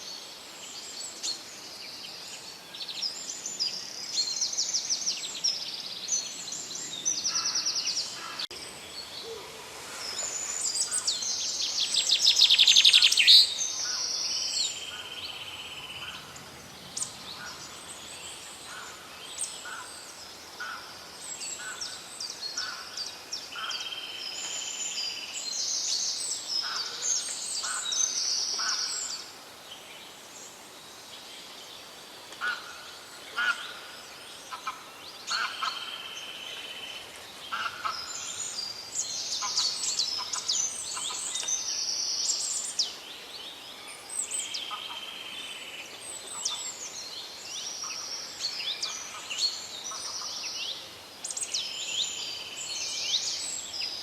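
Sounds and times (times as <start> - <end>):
faint steady hiss: 0.0 - 54.0
songbirds chirping and trilling: 0.0 - 54.0.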